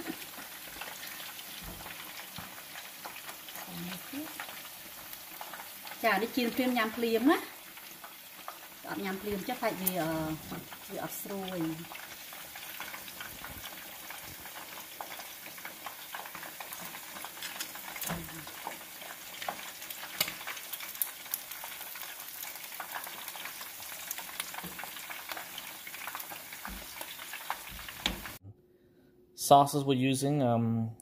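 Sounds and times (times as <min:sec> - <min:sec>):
oil sizzling and crackling: 0:00.0 - 0:28.4.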